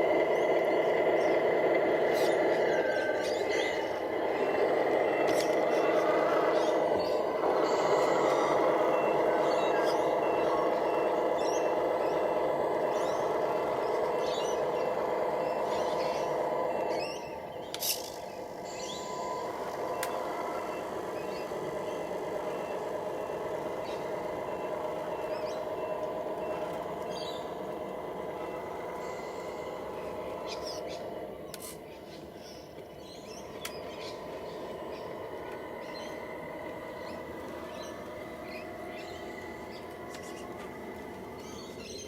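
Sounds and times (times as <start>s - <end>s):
electric motors whining: 0.0s - 42.0s.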